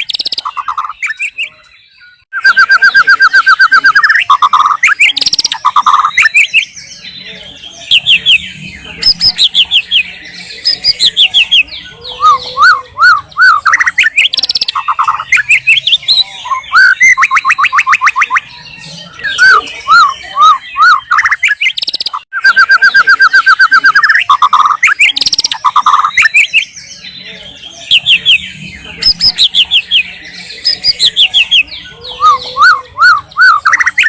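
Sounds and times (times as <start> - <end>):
bird singing varied song: 0.0 - 34.0.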